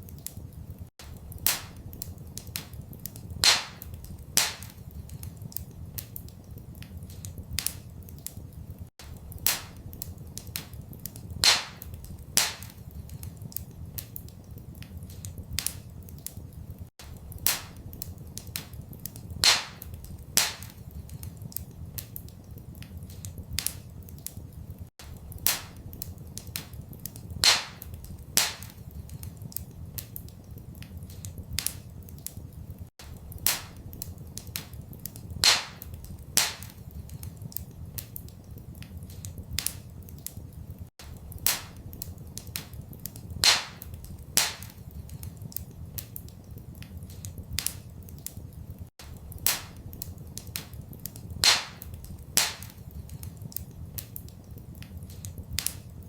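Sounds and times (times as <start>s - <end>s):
loud fire snap: 0.0s - 56.0s
low fire rumble: 0.0s - 56.0s
wood fire crackling: 0.0s - 56.0s.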